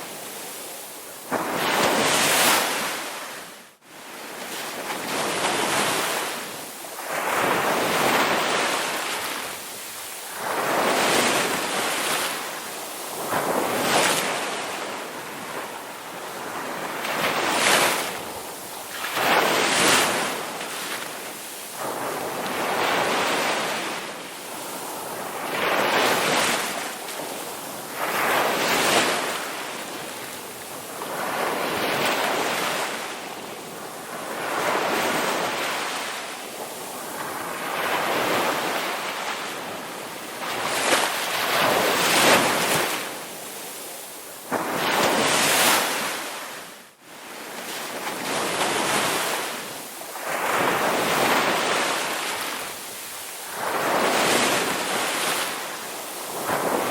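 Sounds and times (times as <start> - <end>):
ocean waves breaking on beach: 0.0 - 56.9.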